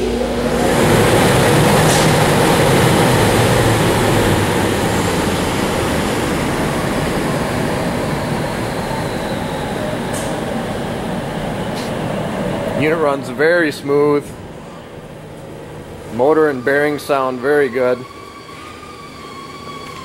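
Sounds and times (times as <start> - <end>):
exhaust blower rushing air: 0.0 - 19.9
faint high motor whine: 0.0 - 20.0.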